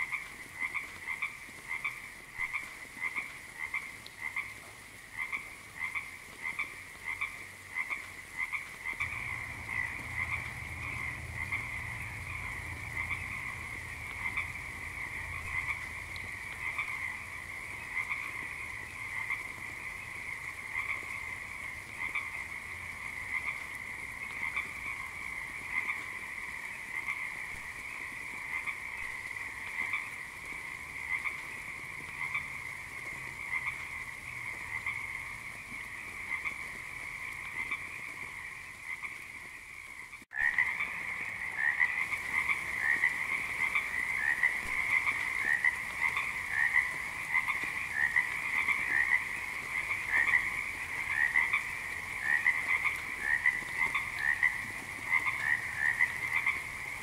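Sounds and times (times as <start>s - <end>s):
frogs croaking: 0.0s - 57.0s.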